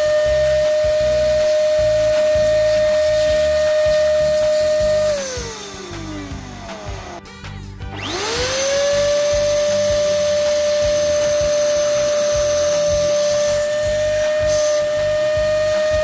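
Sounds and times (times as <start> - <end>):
power tool motor whine: 0.0 - 16.0.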